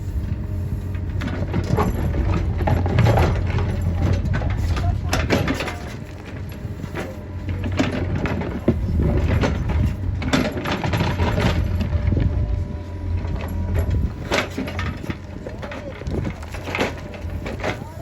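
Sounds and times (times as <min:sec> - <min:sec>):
diesel engine running: 0:00.0 - 0:18.0
knocks and clanks of machinery: 0:00.2 - 0:18.0.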